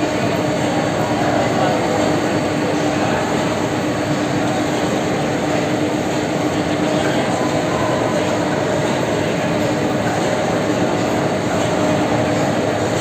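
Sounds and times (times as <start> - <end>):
factory machinery humming: 0.0 - 13.0.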